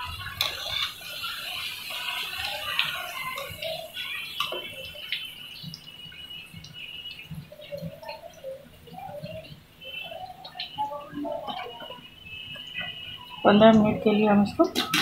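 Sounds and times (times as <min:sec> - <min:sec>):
hot oil bubbling and crackling: 0:00.0 - 0:15.0.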